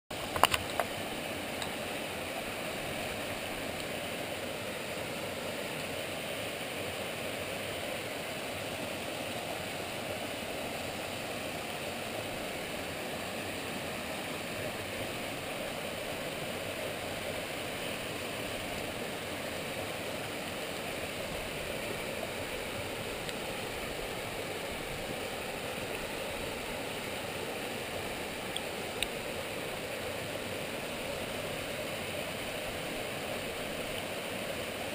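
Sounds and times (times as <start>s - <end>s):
waterfall rushing into pool: 0.1s - 34.9s.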